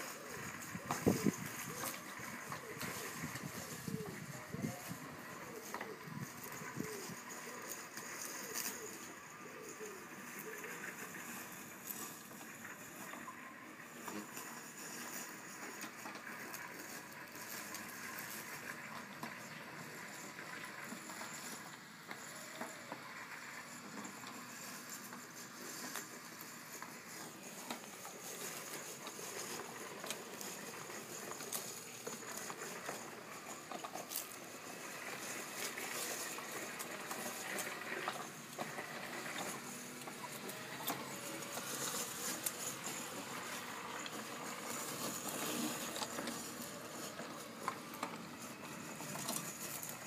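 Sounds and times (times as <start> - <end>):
robot lawn mower on grass: 0.0 - 50.0
small ticks and crackles: 5.6 - 13.3, 13.9 - 50.0.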